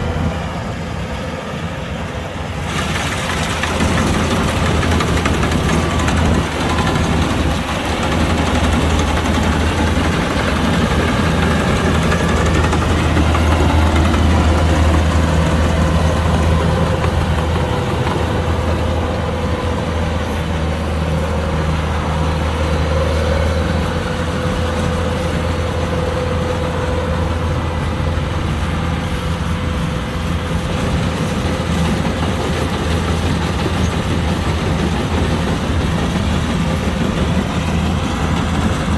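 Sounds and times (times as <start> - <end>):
diesel engine humming: 0.0 - 38.9
machinery whine: 0.0 - 38.9.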